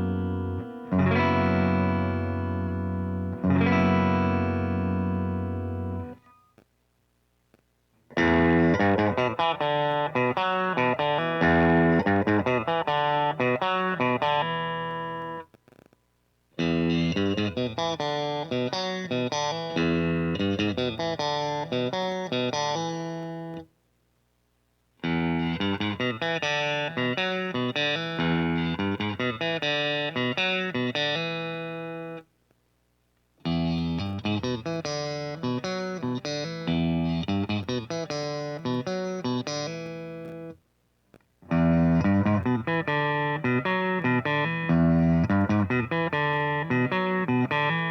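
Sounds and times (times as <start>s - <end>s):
clean electric guitar phrases: 0.0s - 6.4s, 8.1s - 15.5s, 16.6s - 23.6s, 25.0s - 32.2s, 33.4s - 40.6s, 41.4s - 47.9s.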